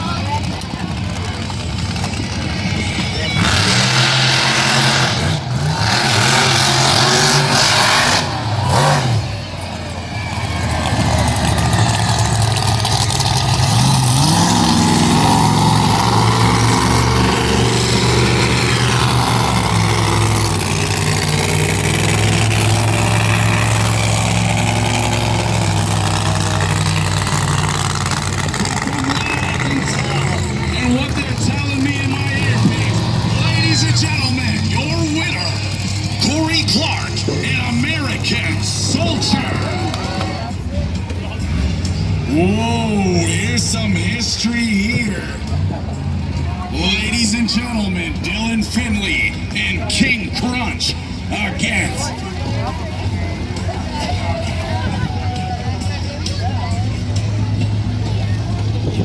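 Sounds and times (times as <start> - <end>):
monster truck engine revving: 0.0 - 59.0.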